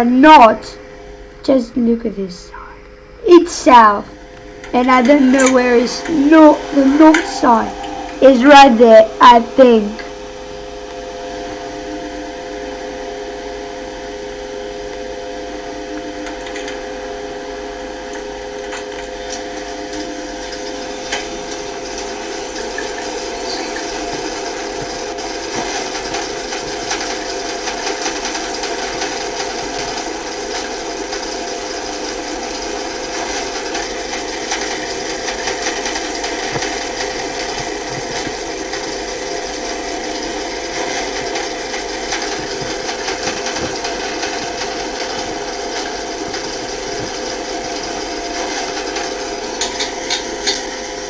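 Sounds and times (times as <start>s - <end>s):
lift mechanical hum: 0.0s - 51.0s
machine running with fine rattle: 0.0s - 51.0s.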